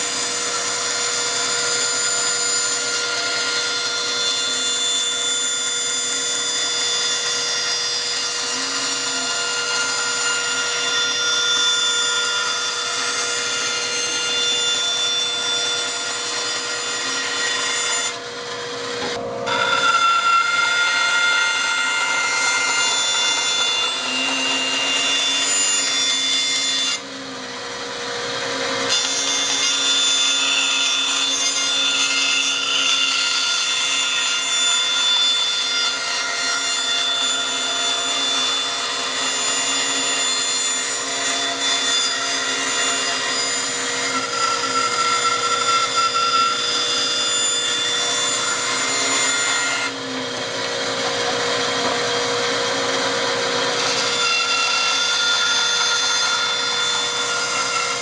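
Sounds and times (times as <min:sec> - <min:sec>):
bandsaw cutting plywood: 0:00.0 - 0:58.0.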